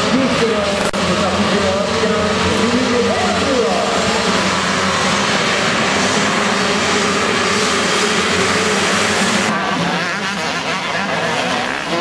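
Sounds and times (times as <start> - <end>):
motocross bikes accelerating: 0.0 - 12.0.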